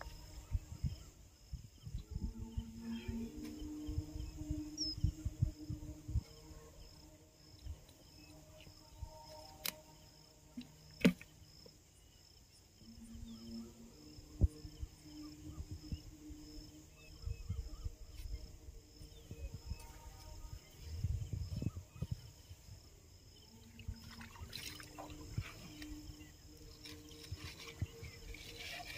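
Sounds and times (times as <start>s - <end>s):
wind rumble on microphone: 0.0s - 9.4s, 12.8s - 28.9s
insect chirping: 0.0s - 28.9s.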